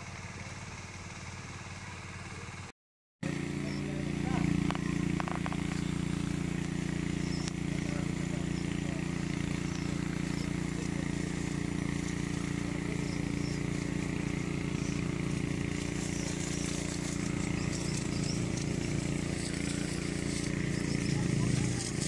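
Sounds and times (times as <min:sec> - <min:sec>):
small engine running: 0:00.0 - 0:22.0
spray nozzle hissing: 0:03.6 - 0:22.0.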